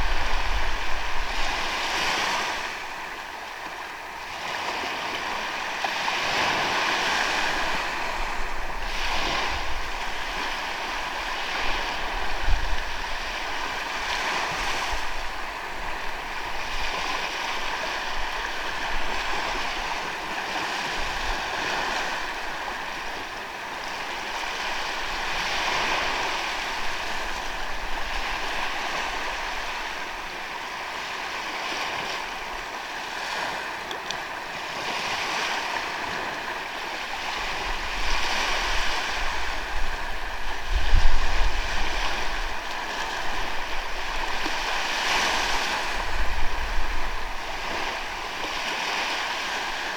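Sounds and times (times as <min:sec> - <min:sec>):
wind buffeting microphone: 0:00.0 - 0:03.0, 0:06.1 - 0:30.3, 0:34.8 - 0:49.9
sea waves washing onto beach: 0:00.0 - 0:49.9.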